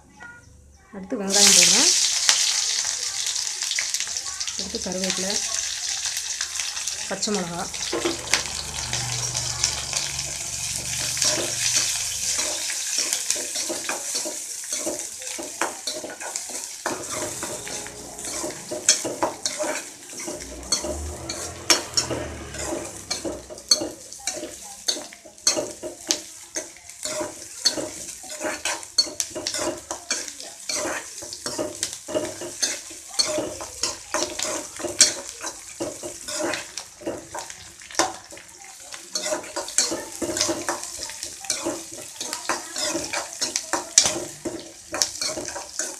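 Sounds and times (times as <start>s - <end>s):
food sizzling in oil: 1.1s - 45.9s
metal spatula scraping pan: 6.8s - 38.5s, 39.1s - 45.9s.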